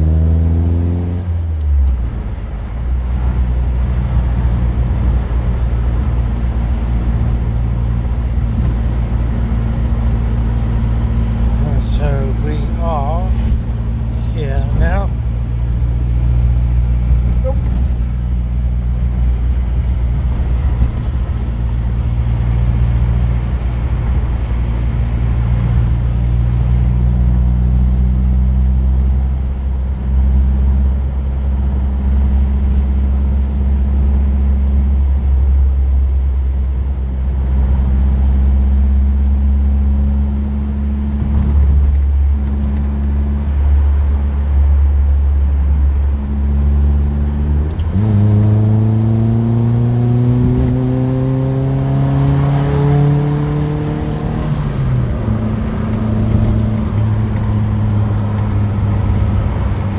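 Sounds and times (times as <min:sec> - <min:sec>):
car engine droning: 0:00.0 - 0:59.9
road noise: 0:00.0 - 0:59.9.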